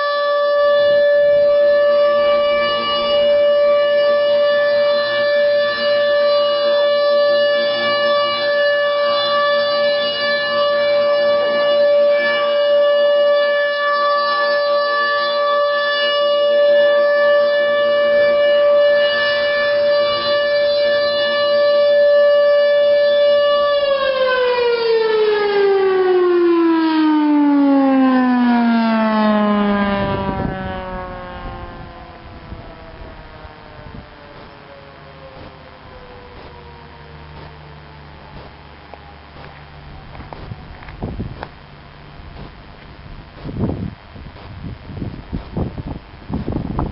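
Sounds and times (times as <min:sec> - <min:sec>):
tornado siren: 0:00.0 - 0:46.9.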